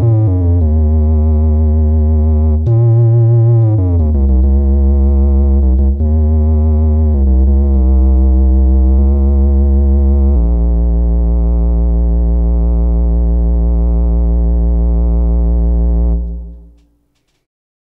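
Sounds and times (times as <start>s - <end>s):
synthesizer bass note: 0.0s - 16.8s.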